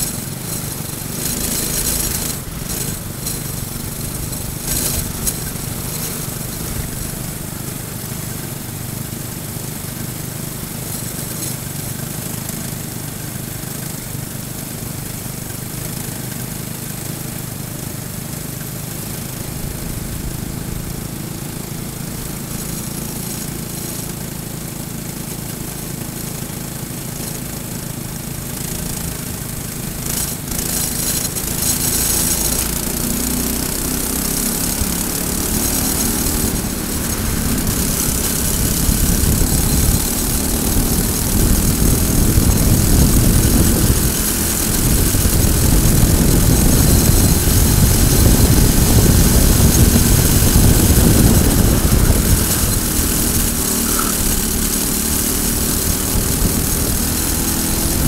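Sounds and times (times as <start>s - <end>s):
kart engine running: 0.0s - 58.0s
other kart engines: 0.0s - 58.0s.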